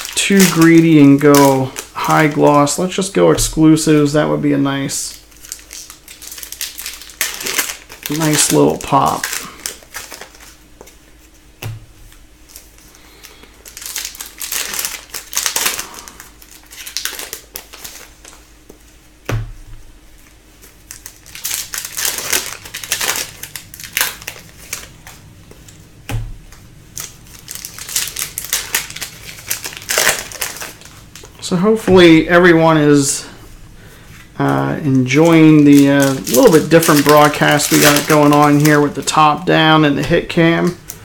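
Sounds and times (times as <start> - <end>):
foil wrappers crinkling: 0.0 - 19.2, 19.9 - 41.0.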